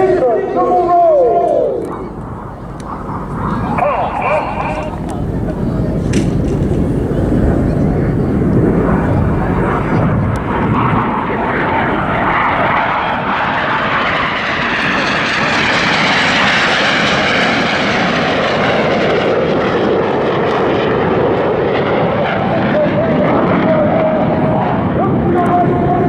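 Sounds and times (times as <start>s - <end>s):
jets flying past: 0.0s - 26.0s.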